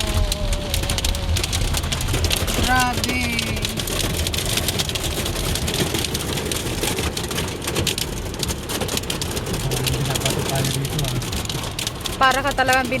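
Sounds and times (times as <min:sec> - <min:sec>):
hailstones pelting a car: 0:00.0 - 0:13.0
low rumble of car: 0:00.0 - 0:13.0.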